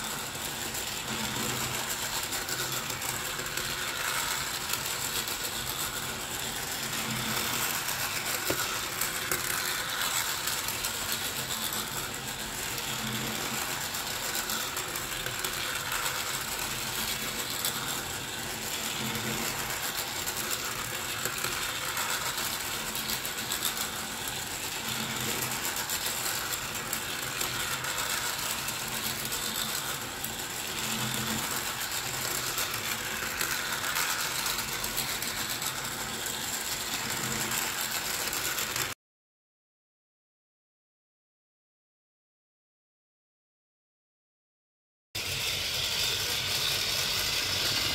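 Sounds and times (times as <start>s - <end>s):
toy train whirring and clattering: 0.0s - 39.0s, 45.2s - 47.9s.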